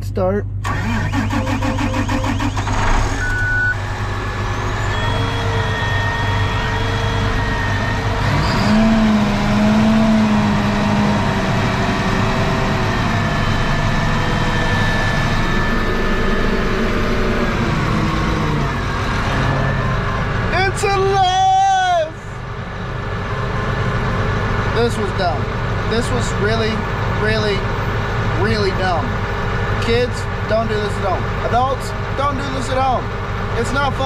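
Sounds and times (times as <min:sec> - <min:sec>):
tractor diesel engine cranking and running: 0:00.0 - 0:34.0.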